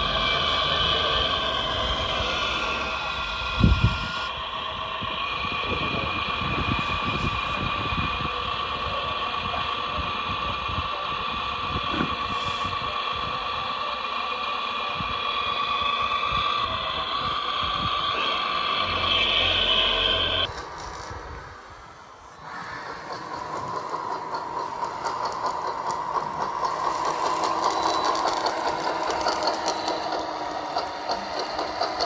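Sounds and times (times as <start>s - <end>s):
model excavator hydraulic whine: 0.0s - 32.0s.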